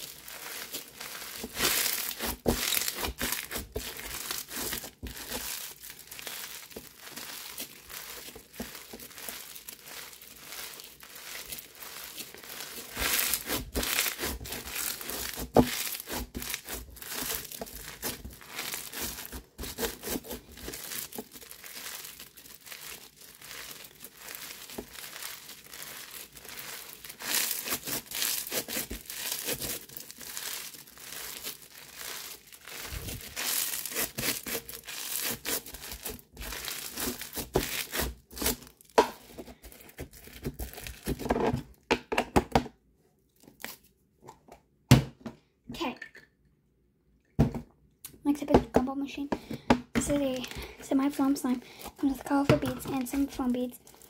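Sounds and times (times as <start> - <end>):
bead slime crunching: 0.0 - 41.2, 50.0 - 54.0.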